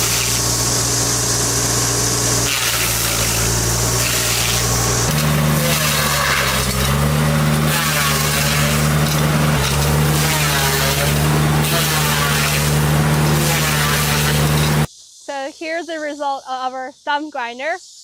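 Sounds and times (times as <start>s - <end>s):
loader engine running hard: 0.0s - 14.9s.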